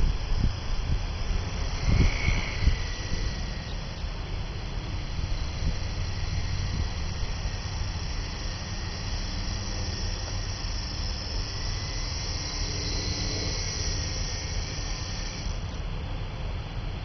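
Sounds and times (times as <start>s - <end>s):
high hiss: 0.0s - 16.0s
rc helicopter rotor whine: 0.0s - 17.0s
wind rumble on microphone: 0.0s - 17.0s.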